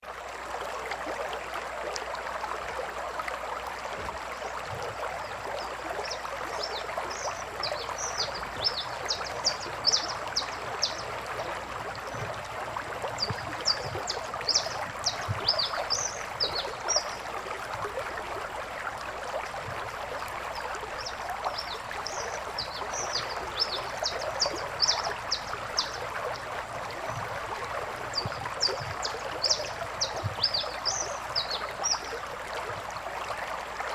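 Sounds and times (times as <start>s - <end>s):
river water rushing: 0.2s - 33.9s.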